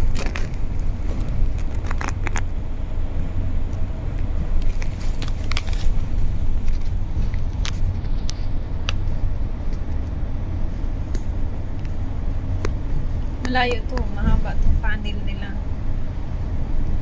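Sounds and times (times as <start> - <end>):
bus driving through tunnel rumble: 0.0 - 17.0.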